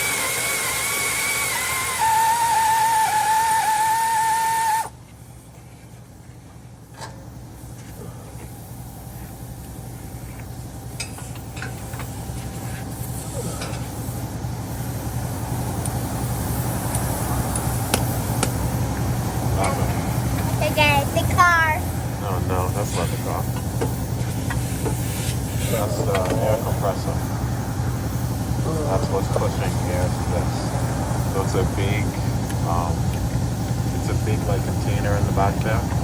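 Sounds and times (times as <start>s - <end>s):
air compressor humming: 0.0s - 36.0s.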